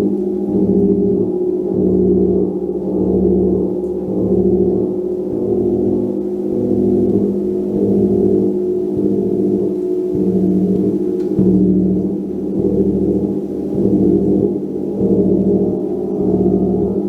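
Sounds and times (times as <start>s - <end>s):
gong rolling mallet strokes: 0.0s - 17.0s.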